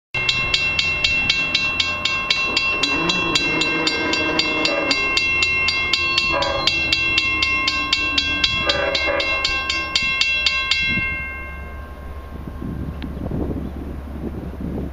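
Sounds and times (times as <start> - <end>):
crossing bell ringing: 0.2 - 14.9.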